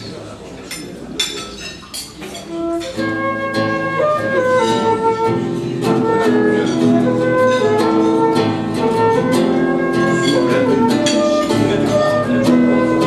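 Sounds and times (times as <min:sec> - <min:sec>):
flute melody: 0:02.3 - 0:13.0
acoustic guitar strumming: 0:02.5 - 0:13.0.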